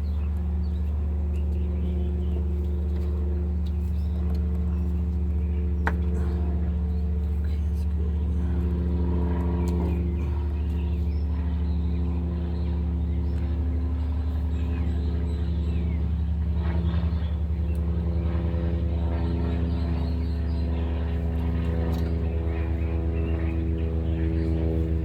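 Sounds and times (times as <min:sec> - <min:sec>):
engine idling with slight pulsing: 0:00.0 - 0:25.0.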